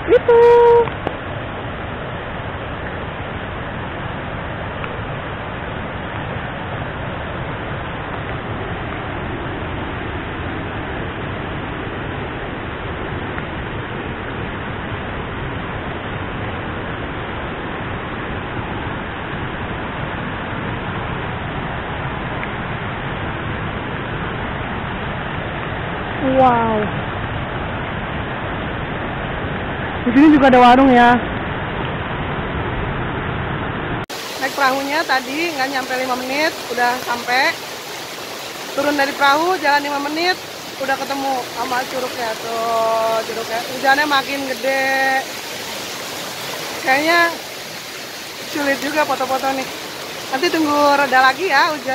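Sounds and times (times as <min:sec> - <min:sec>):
rain: 0:00.0 - 0:51.9
waterfall rushing: 0:00.0 - 0:51.9.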